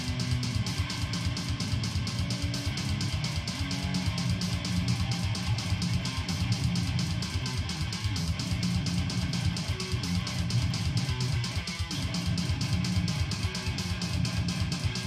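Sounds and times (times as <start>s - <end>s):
electric guitar metal riff: 0.0s - 15.0s.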